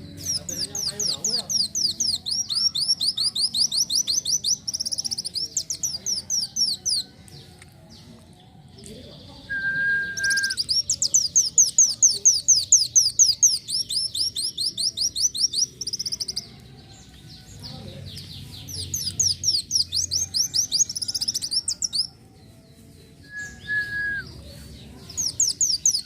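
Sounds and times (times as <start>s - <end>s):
bird singing chattering song: 0.0s - 26.0s.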